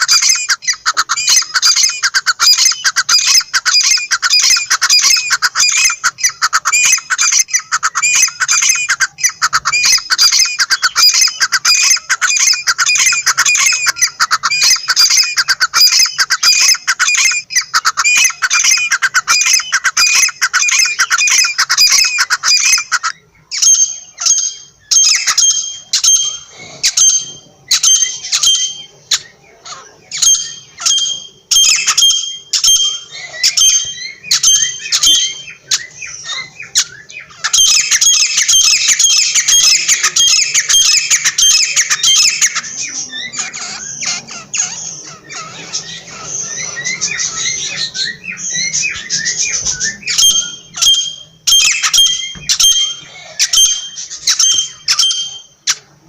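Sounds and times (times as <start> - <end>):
francolin calling: 0.0 - 56.0.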